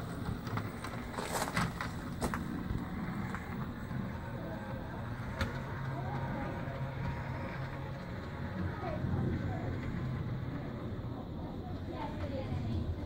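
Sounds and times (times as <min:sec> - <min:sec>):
model train motor drone: 0:00.0 - 0:13.0.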